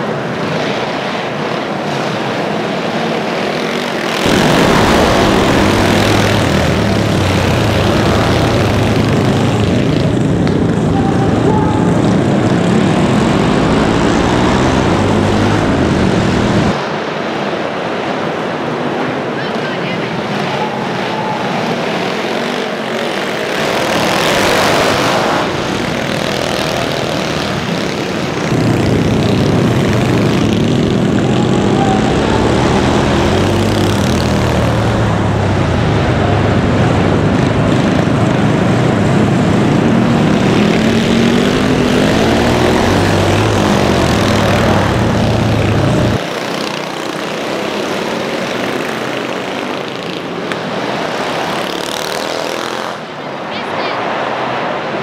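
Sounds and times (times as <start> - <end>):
mini bike engines passing: 0.0 - 17.0, 17.8 - 55.0
distant engines of racing bikes: 0.0 - 55.0
mini bike engine revving up close: 0.5 - 16.8, 20.2 - 53.2.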